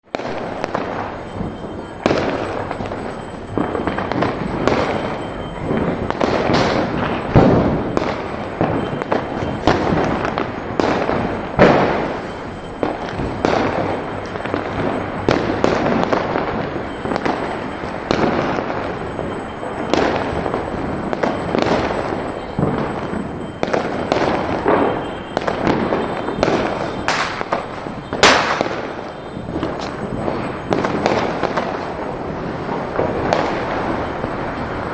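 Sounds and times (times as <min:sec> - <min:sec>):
firecrackers crackling: 0:00.0 - 0:34.9
firecracker bangs: 0:00.1 - 0:34.9.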